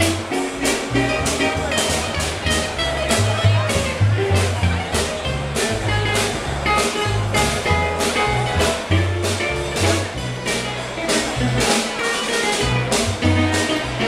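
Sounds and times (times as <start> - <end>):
bass line: 0.0 - 11.9, 12.5 - 14.0
steady drum beat: 0.0 - 14.0
upbeat band music: 0.0 - 14.0.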